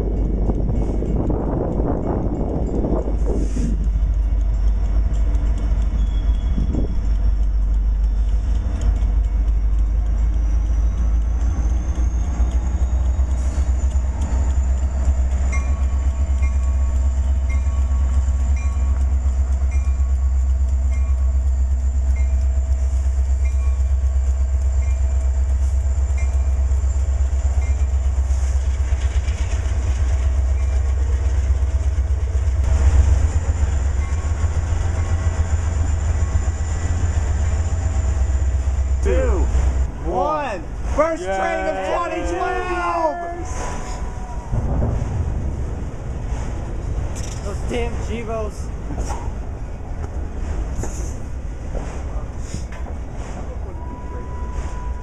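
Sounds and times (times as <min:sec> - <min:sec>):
diesel locomotives passing: 0:00.0 - 0:55.0
train wheels rumbling on rail: 0:00.0 - 0:55.0.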